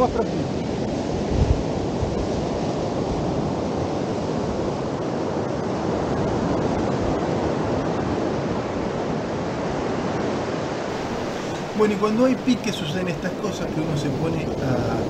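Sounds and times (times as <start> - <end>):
surf washing onto beach: 0.0 - 15.0
wind on microphone: 0.0 - 15.0.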